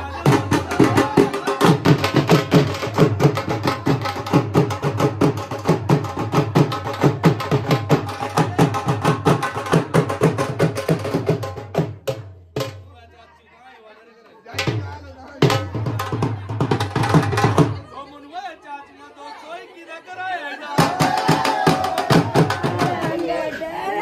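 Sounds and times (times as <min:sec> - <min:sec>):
dhol drums played fast: 0:00.0 - 0:13.2, 0:14.5 - 0:18.0, 0:20.8 - 0:23.3.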